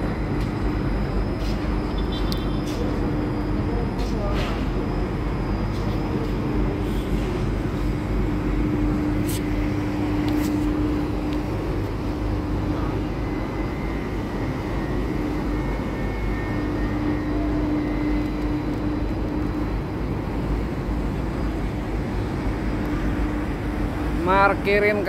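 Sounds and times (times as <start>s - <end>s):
mid-pitched hum: 0.0s - 25.0s.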